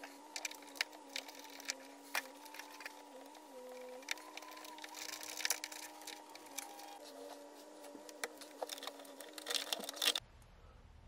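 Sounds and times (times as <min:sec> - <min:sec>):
faint steady tones: 0:00.0 - 0:10.9
low hum: 0:00.0 - 0:11.0.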